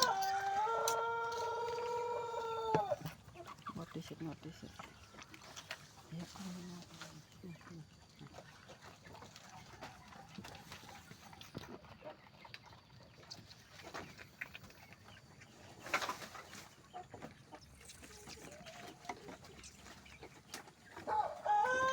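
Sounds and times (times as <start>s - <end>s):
faint farmyard animal sounds: 0.0s - 21.9s.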